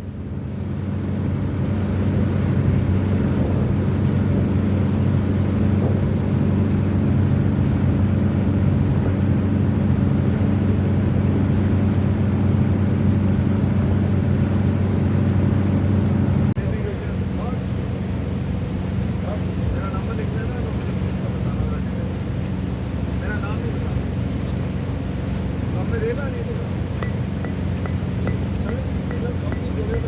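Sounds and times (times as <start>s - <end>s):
motorboat engine droning: 0.0s - 30.0s.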